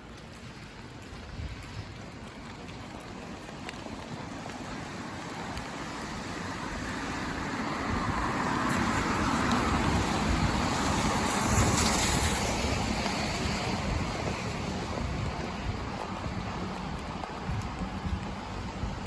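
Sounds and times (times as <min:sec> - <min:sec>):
tyres rushing on road: 0:00.0 - 0:19.0.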